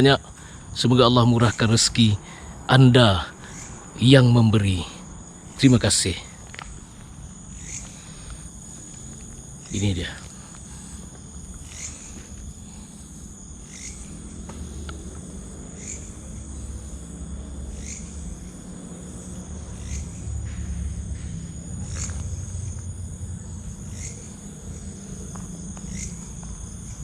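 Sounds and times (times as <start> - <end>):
insects trilling: 0.0 - 27.0
short sharp insect call: 0.0 - 27.0.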